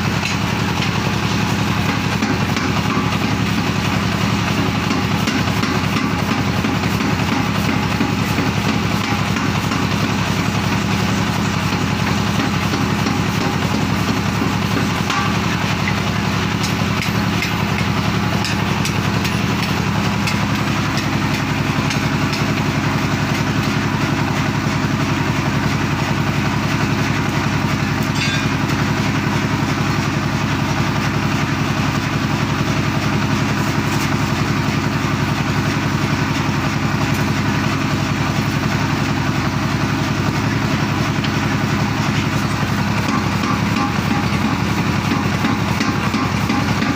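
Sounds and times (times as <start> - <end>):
power hammer machine rumbling: 0.0 - 46.9.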